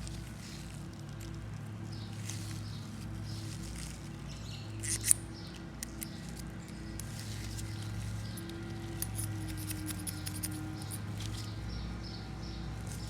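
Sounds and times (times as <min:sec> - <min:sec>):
clicks and scrapes of small parts: 0:00.0 - 0:11.6.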